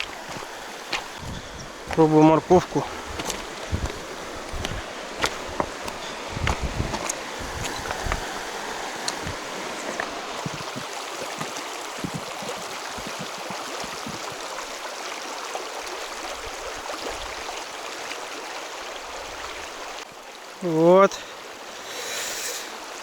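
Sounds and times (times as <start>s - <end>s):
river rushing over shallows: 0.0s - 20.0s.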